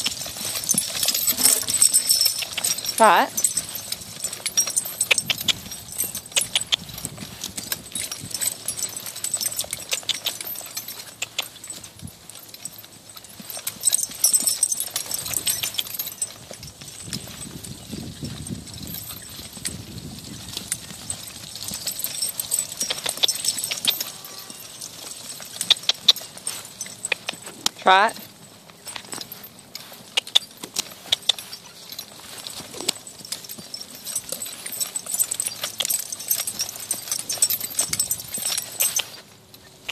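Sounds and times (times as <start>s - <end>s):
horse hooves trotting on turf: 0.0s - 39.9s.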